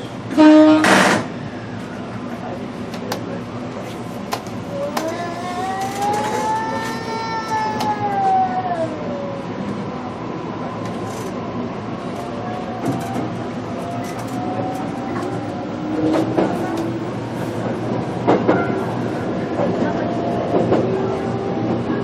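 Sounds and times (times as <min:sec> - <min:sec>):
train car rumble: 0:00.0 - 0:22.0.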